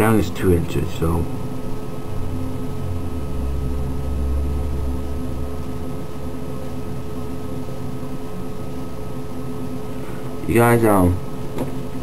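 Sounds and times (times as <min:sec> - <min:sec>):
computer fan humming: 0:00.0 - 0:12.0
faint whining tones: 0:00.0 - 0:12.0.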